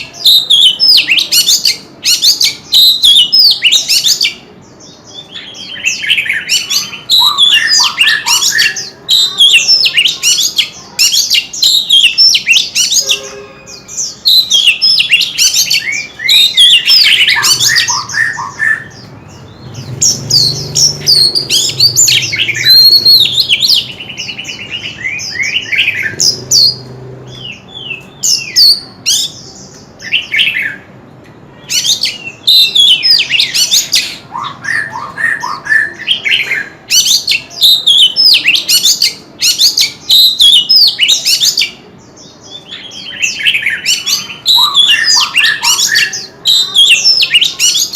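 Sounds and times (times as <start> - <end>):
bird singing whistled phrases: 0.2 - 4.4, 5.1 - 30.9, 31.6 - 41.8, 42.5 - 47.9.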